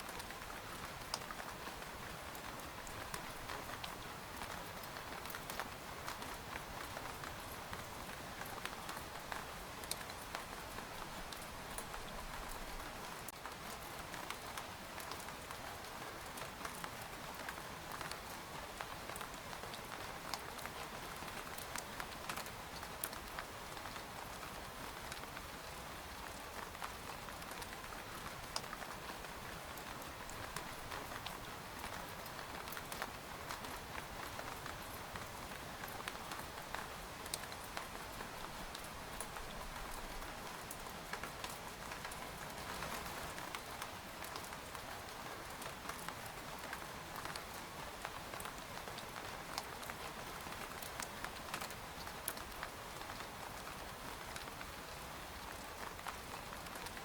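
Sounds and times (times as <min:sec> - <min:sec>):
rain hissing on tent: 0:00.0 - 0:57.0.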